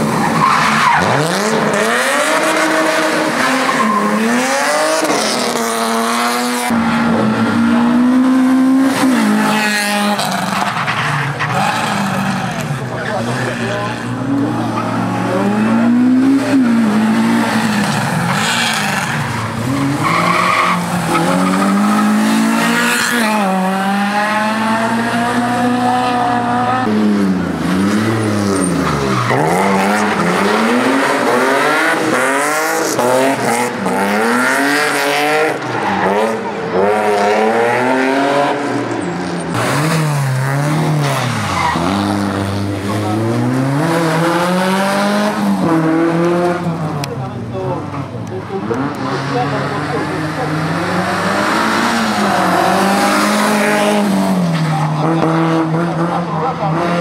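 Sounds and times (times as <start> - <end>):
car engine revving hard: 0.0 - 10.7, 11.4 - 47.1, 48.6 - 57.0.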